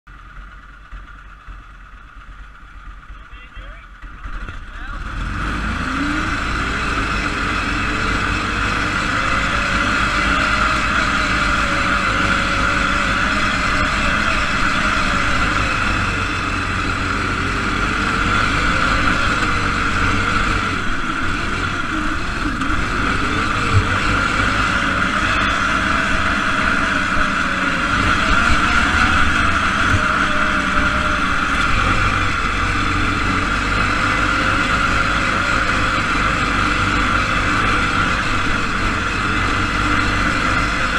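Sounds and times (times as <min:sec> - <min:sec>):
single-cylinder engine running: 0:00.1 - 0:40.9.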